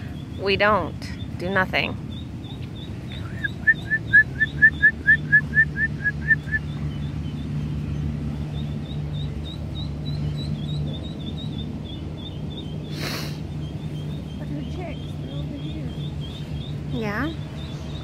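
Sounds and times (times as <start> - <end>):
ducklings peeping: 0.0 - 18.0
faint high peeping: 0.0 - 18.0.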